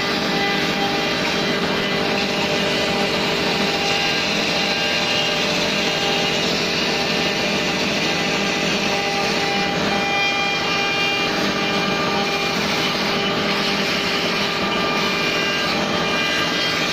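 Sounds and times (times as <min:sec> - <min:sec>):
router spindle whine: 0:00.0 - 0:16.9.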